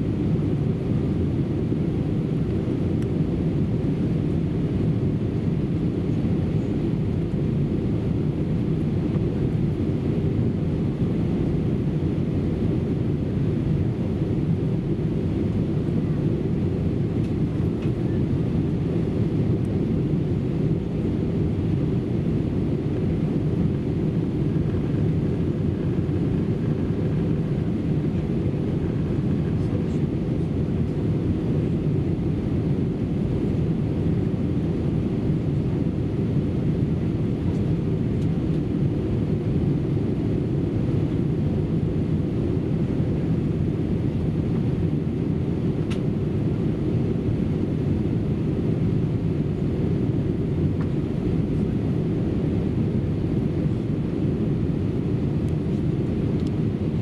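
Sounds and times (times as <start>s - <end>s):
airliner cabin engine noise: 0.0s - 57.0s.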